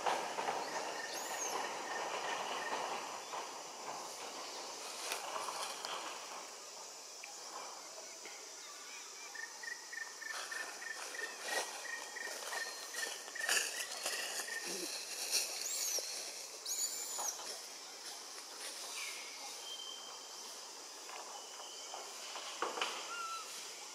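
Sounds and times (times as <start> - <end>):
rustles and clicks: 0.0 - 7.8, 10.2 - 23.7
insect hum: 0.0 - 23.9.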